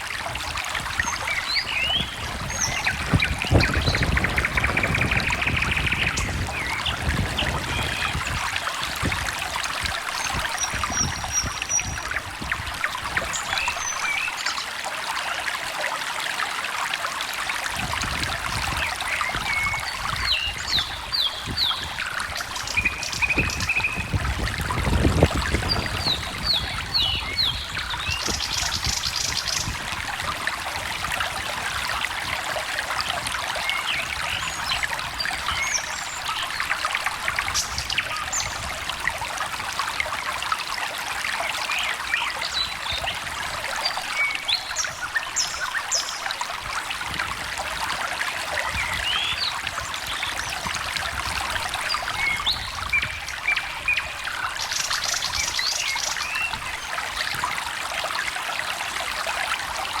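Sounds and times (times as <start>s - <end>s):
stream trickling and babbling: 0.0s - 60.0s.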